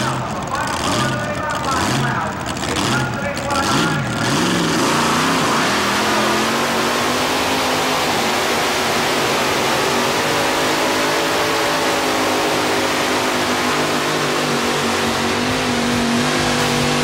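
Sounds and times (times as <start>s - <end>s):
tractor engine running under load: 0.0s - 17.0s.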